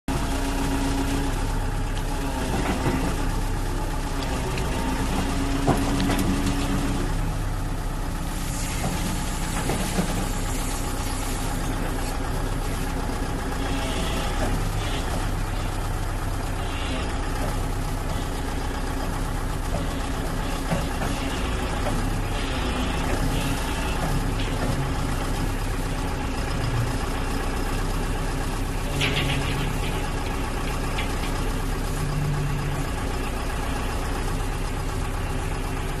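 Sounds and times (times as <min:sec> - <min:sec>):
excavator diesel engine running: 0:00.1 - 0:36.0.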